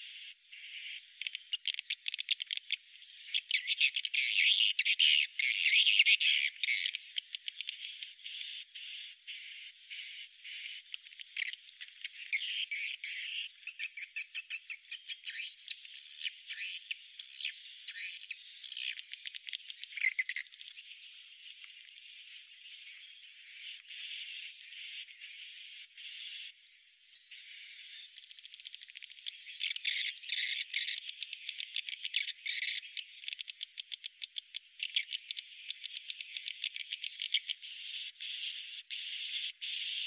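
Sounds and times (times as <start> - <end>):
chorus of bird chirps and clicks: 0.0 - 40.0.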